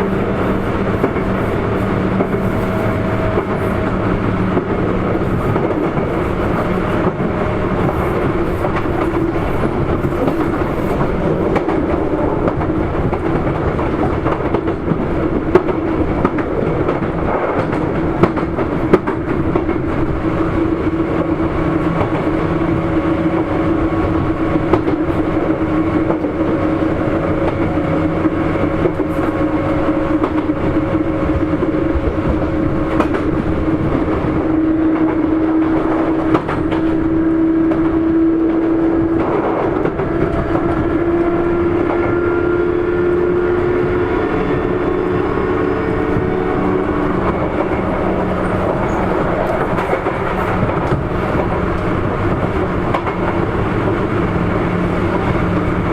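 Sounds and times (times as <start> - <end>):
train rolling noise: 0.0 - 55.9.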